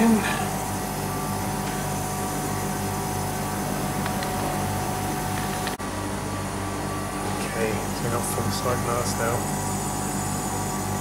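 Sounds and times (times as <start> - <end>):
refrigeration unit humming: 0.0 - 11.0.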